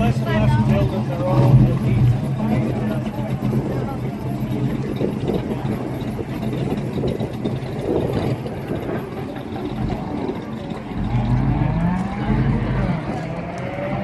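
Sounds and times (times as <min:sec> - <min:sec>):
car engine idling: 0:00.0 - 0:14.0
outdoor noise: 0:00.0 - 0:14.0.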